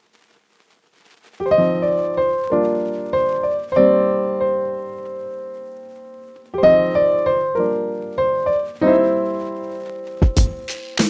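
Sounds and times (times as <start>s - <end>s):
piano chords ringing: 1.4s - 10.7s.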